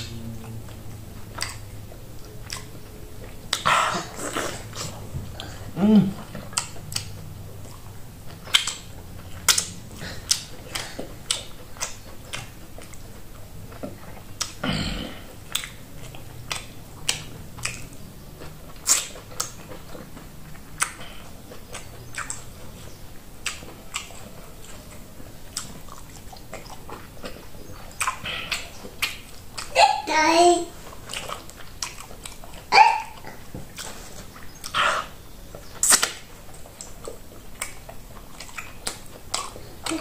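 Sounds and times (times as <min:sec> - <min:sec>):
wet eating and lip smacks: 0:00.0 - 0:14.6, 0:15.2 - 0:30.1, 0:30.8 - 0:40.0.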